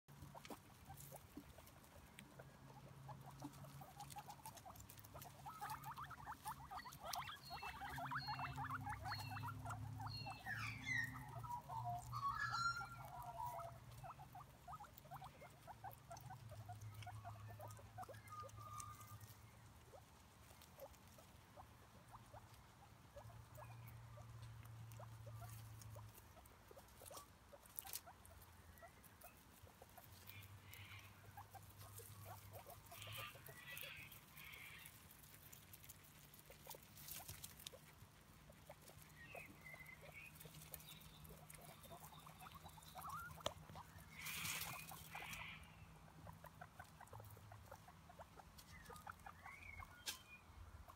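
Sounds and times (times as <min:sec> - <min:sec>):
rustling in dry leaves: 0:00.1 - 0:23.0, 0:24.1 - 0:47.8
guinea pigs chewing grass: 0:00.1 - 0:50.9.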